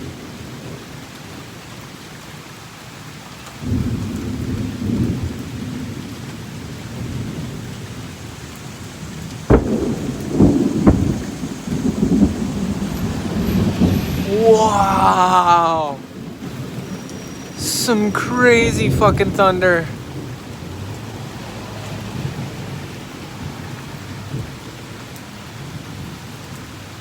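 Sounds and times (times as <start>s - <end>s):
steady rain: 0.0s - 27.0s
thunder rumbling and cracking: 3.6s - 8.2s, 9.1s - 15.3s, 16.0s - 26.8s.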